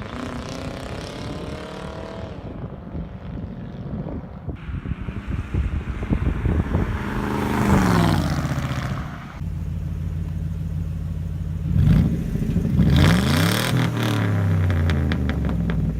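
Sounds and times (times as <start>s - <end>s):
car engine revving and idling: 0.0s - 15.9s.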